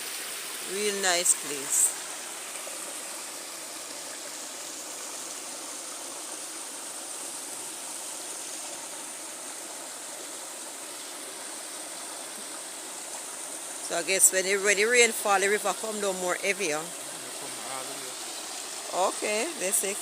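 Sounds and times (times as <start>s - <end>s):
river water flowing over rocks: 0.0s - 20.0s.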